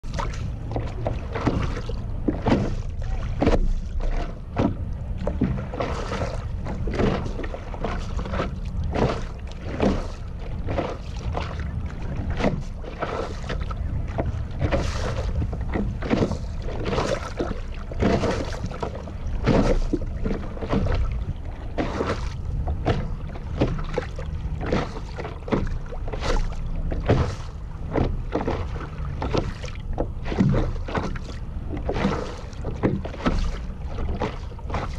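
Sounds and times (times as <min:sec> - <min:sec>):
water splashing against board: 0:00.0 - 0:34.9
wind rumble on microphone: 0:00.0 - 0:34.9.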